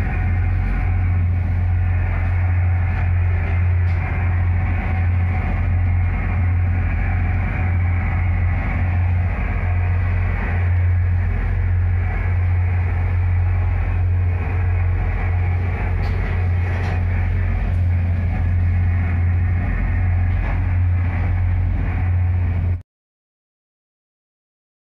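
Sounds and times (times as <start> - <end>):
diesel engines droning: 0.0 - 22.8.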